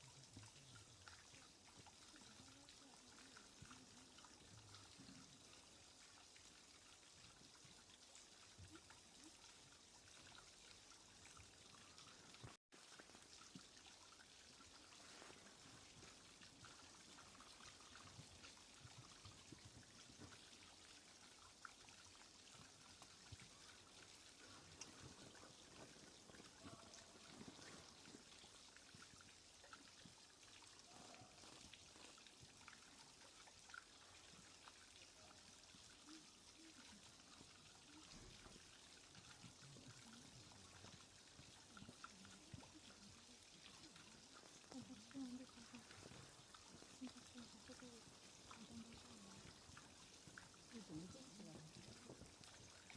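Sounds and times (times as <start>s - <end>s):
faint steady hiss: 0.0s - 52.9s.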